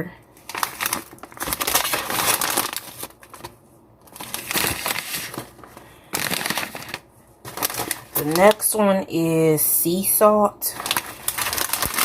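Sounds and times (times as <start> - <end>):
snack bags crinkling: 0.4 - 8.8, 10.6 - 12.0.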